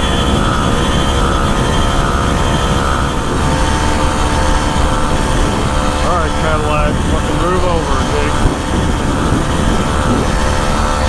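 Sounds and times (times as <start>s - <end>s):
small engine running: 0.0s - 11.0s
wind on microphone: 0.0s - 11.0s.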